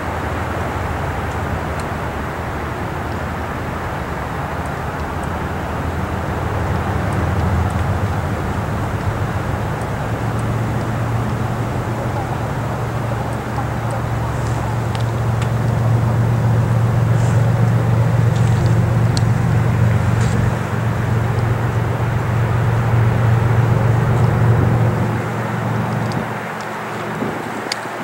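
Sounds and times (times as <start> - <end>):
diesel locomotive drone: 0.0 - 28.0.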